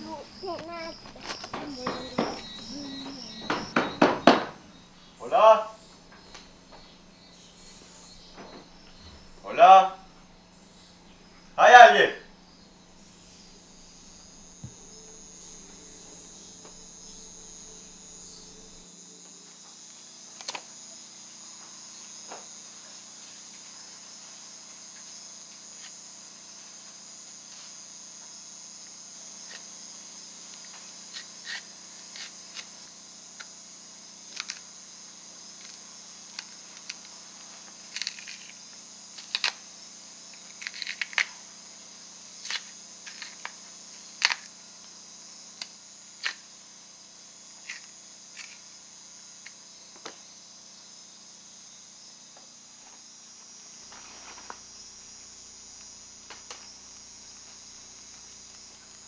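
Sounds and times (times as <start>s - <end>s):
crickets and insects chirping: 0.0s - 59.0s.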